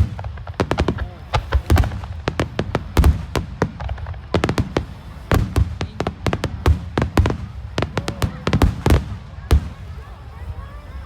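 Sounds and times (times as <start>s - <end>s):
fireworks bangs and pops: 0.0s - 10.4s
deep fireworks booms: 0.0s - 11.0s.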